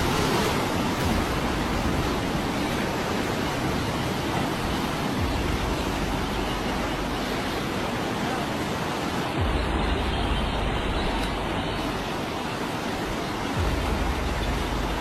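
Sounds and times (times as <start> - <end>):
fast-flowing floodwater rushing: 0.0 - 15.0.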